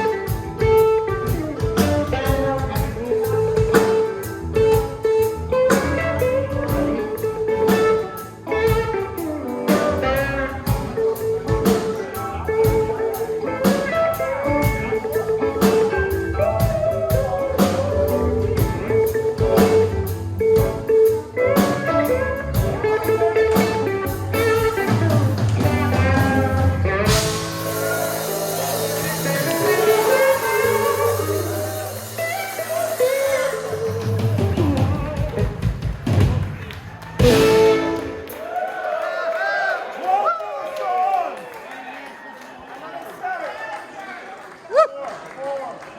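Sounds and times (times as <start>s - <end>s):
electric guitar lead: 0.0s - 38.4s
bass guitar: 0.0s - 38.6s
drum kit: 0.0s - 38.6s.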